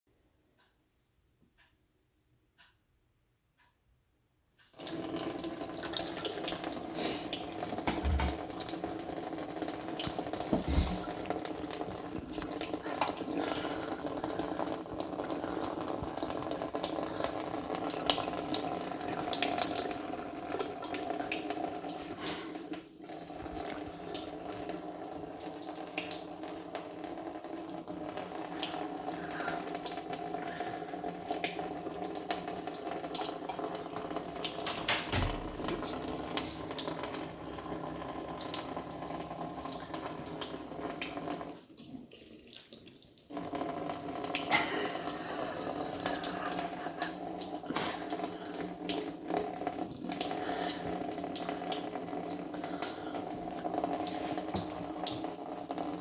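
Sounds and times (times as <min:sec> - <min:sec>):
tap water running into sink: 0:04.8 - 0:56.0.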